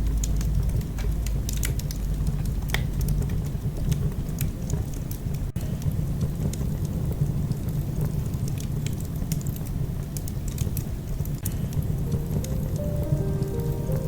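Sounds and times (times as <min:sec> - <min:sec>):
low rumble of flames: 0:00.0 - 0:14.0
sharp snaps and pops: 0:00.0 - 0:14.0
wood fire crackling: 0:00.0 - 0:14.0.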